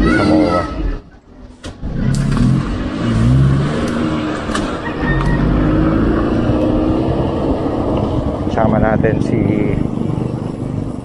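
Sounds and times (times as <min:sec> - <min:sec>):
car and motorcycle engines: 0:00.0 - 0:11.0
steady rushing noise: 0:01.8 - 0:11.0.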